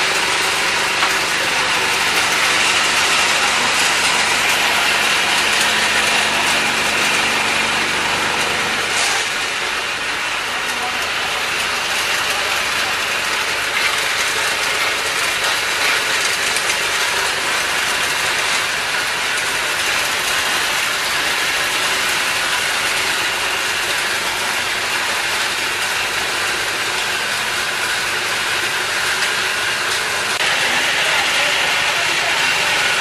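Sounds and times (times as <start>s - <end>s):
nuts rattling through crusher: 0.0s - 9.9s, 10.5s - 33.0s.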